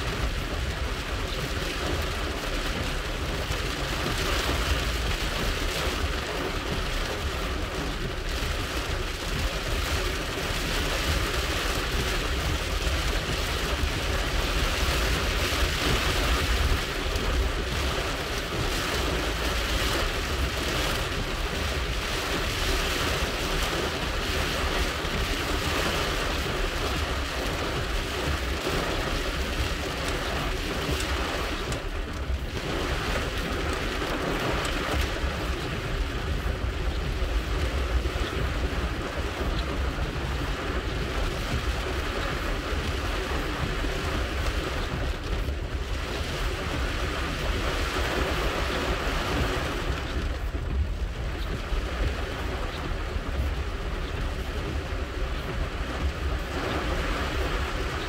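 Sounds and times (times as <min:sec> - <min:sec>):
engine and road rumble: 0:00.0 - 0:58.0
heavy rain on car roof: 0:00.0 - 0:58.0.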